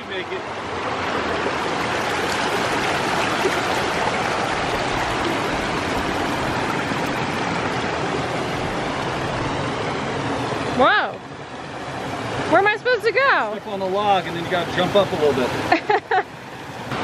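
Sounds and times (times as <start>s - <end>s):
waterfall and creek rushing: 0.0s - 17.0s.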